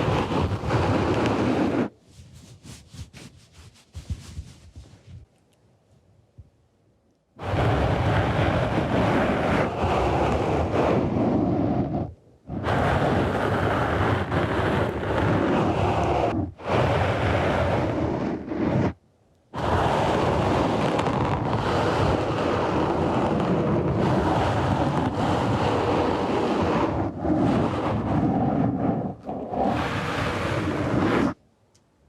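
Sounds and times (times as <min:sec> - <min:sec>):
wind on microphone: 0:00.0 - 0:05.4, 0:07.4 - 0:31.4.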